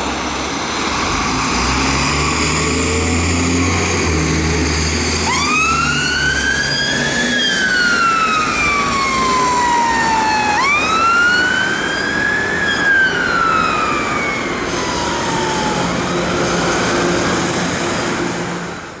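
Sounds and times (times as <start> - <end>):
road traffic noise: 0.0 - 19.0
fire engine siren wailing: 1.8 - 18.4.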